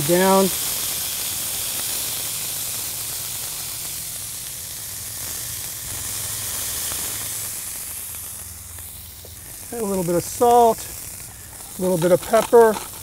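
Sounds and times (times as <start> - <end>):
meat patty sizzling on a griddle: 0.0 - 13.0.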